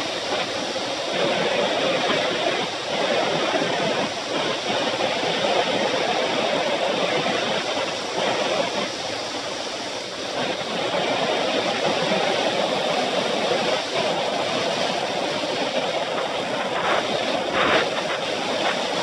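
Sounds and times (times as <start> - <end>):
bicycle tyre noise on asphalt: 0.0 - 19.0
wind noise on microphone: 0.0 - 19.0.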